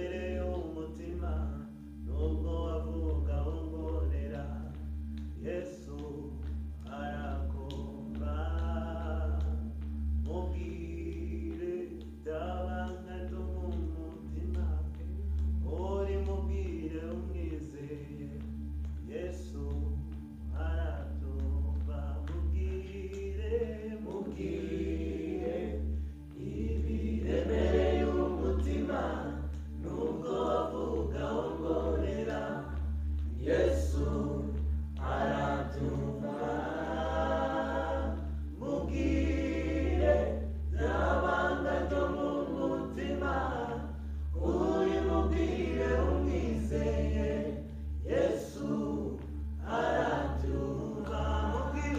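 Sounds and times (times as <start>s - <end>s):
group singing worship song: 0.0s - 51.9s
steady low hum: 0.0s - 51.9s.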